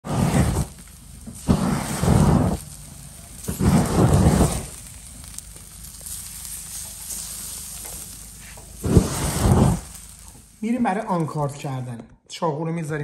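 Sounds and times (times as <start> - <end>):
flames whooshing: 0.0 - 11.6.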